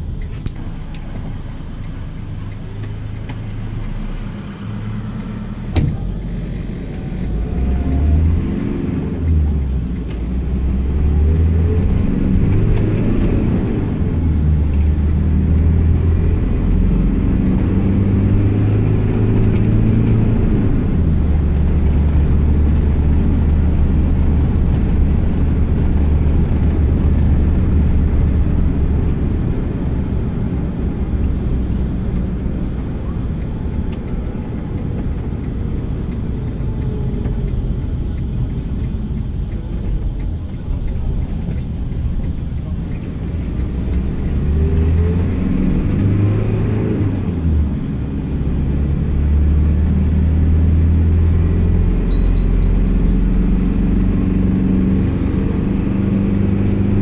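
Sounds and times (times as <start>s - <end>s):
diesel engine accelerating: 0.0s - 57.0s.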